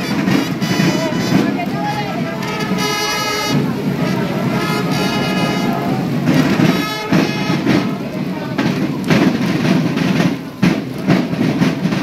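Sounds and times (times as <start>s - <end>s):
brass band playing chords: 0.0s - 12.0s
heavy rain hiss: 0.0s - 12.0s.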